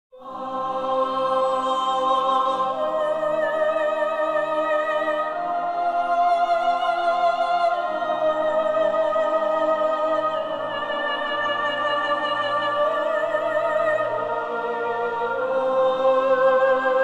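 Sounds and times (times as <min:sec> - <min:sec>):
melodic music with vibrato: 0:00.2 - 0:17.0.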